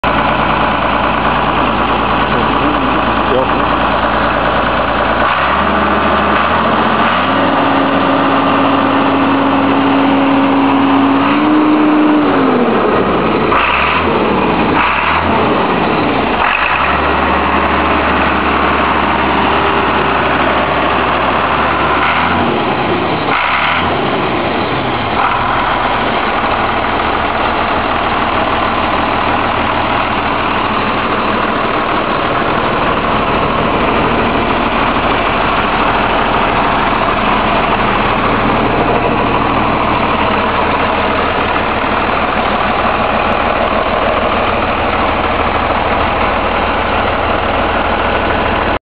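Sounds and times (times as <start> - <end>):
tractor diesel engine running: 0.0 - 48.8.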